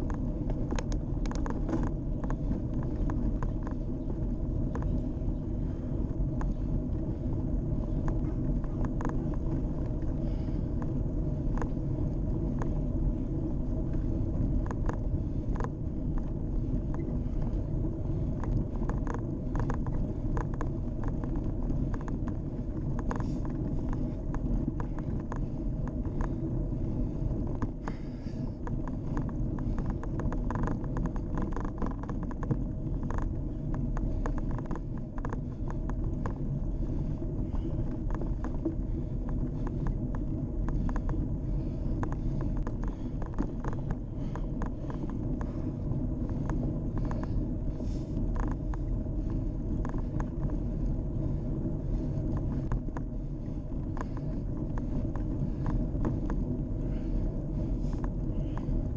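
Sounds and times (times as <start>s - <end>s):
bike clicks and rattles: 0.0s - 58.9s
tyres rumbling on road: 0.0s - 58.9s
wind on microphone: 0.0s - 58.9s.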